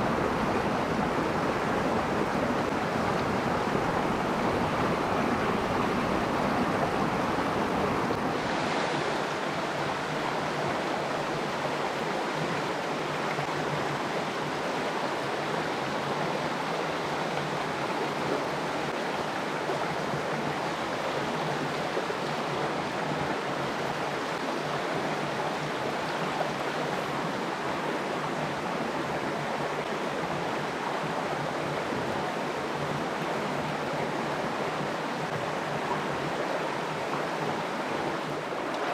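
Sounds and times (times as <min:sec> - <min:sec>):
stream water rushing over rocks: 0:00.0 - 0:38.9.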